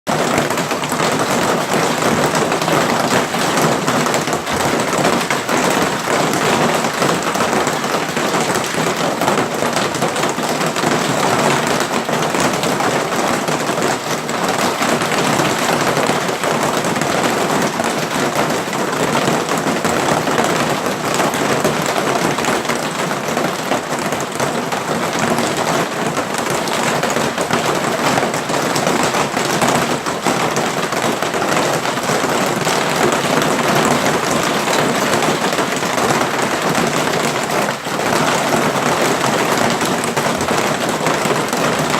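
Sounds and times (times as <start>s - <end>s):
hailstones pelting down: 0.1s - 41.9s.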